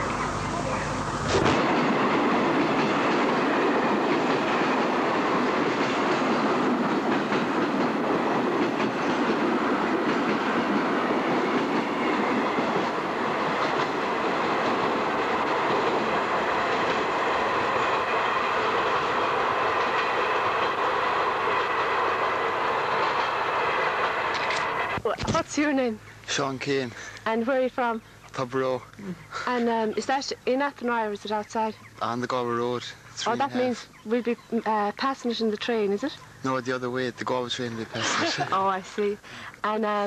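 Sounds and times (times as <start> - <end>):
train rumbling and rattling past: 0.0 - 28.8, 29.7 - 40.0.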